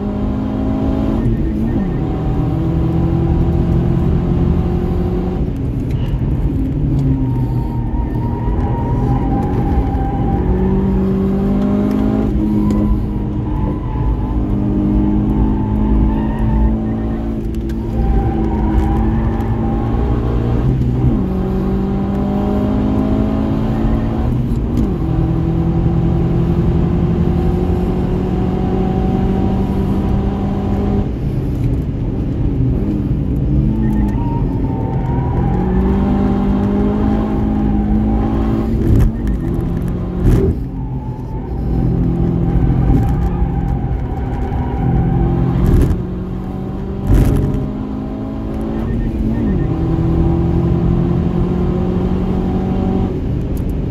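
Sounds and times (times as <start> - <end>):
car engine revving through gears: 0.0 - 53.9.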